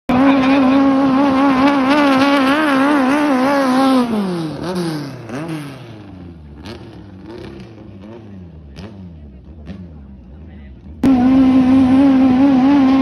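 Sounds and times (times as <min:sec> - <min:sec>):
boat engine revving: 0:00.1 - 0:13.0.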